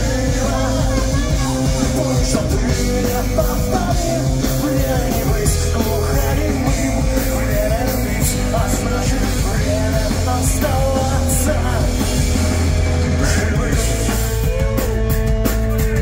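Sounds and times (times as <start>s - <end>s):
live pop-punk band playing: 0.0s - 16.0s.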